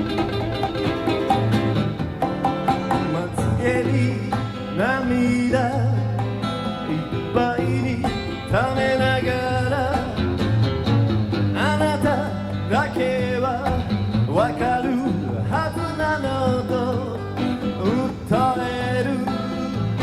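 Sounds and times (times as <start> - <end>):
acoustic guitar duo playing: 0.0 - 20.0.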